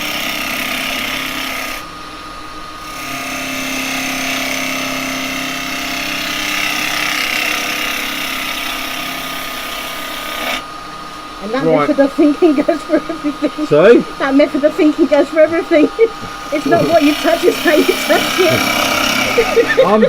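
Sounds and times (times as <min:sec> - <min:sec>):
gouge cutting wood on lathe: 0:00.0 - 0:01.9, 0:02.8 - 0:10.7, 0:11.3 - 0:20.0
lathe motor humming: 0:00.0 - 0:20.0.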